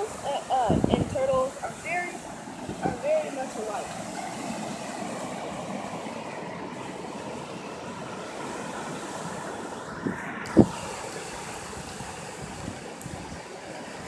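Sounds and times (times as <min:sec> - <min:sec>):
ocean surf rushing: 0:00.0 - 0:14.0.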